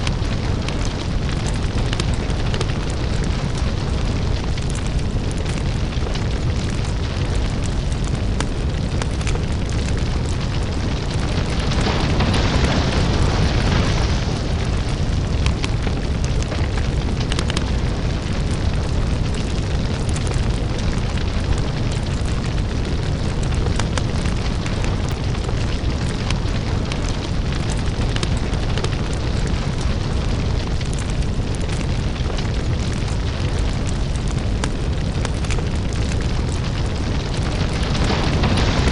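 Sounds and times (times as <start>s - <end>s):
crackles and pops: 0.0s - 38.9s
deep lava rumble: 0.0s - 38.9s.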